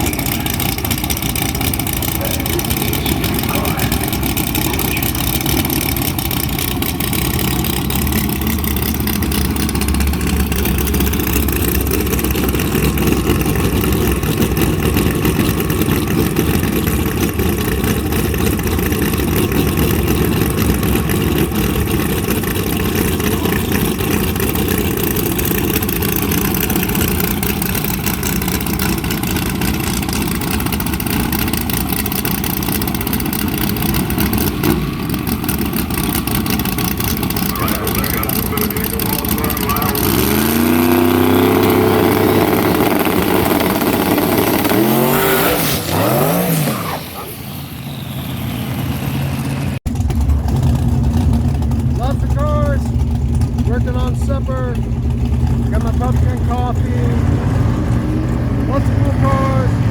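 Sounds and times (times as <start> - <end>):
car engine running: 0.0 - 59.9
road noise: 0.0 - 59.9.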